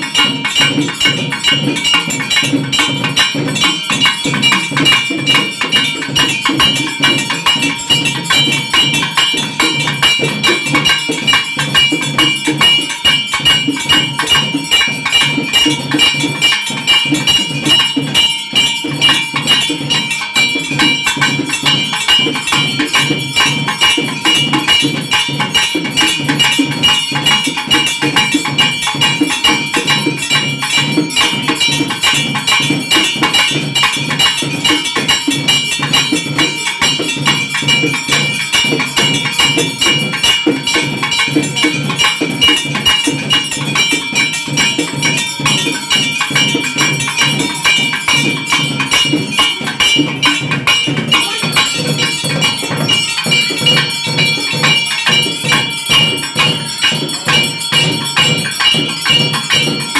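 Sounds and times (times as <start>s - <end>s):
drums beaten rapidly: 0.0s - 59.9s
metal bells or cymbals ringing: 0.0s - 59.9s.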